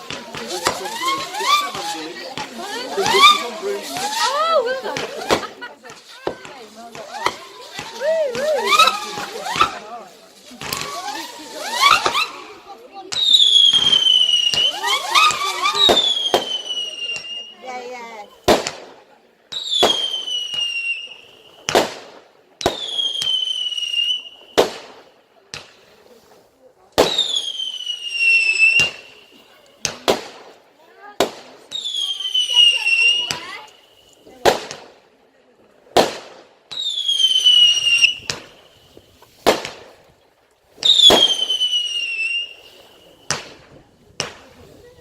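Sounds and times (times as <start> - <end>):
firework whistling: 0.0 - 18.9, 19.5 - 26.4, 27.0 - 30.6, 31.2 - 34.9, 36.0 - 39.9, 40.7 - 45.0
firework bangs: 0.0 - 35.2, 35.8 - 45.0.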